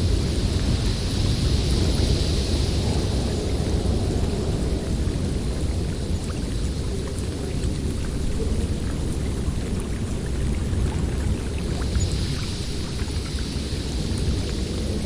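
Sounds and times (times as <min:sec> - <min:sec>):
strong wind blowing: 0:00.0 - 0:15.0.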